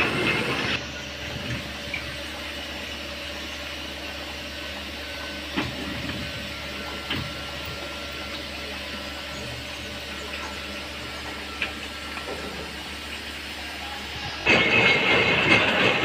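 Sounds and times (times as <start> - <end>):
workshop machinery humming: 0.0 - 16.0.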